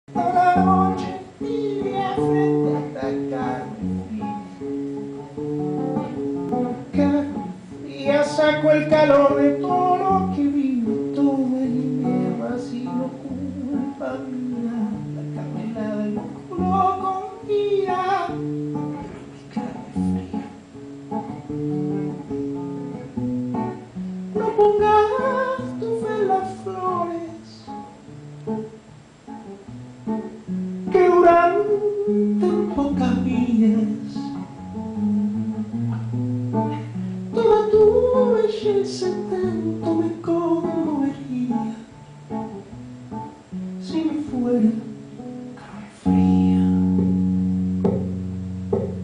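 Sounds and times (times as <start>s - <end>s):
acoustic guitar chords ringing: 0.1s - 49.0s.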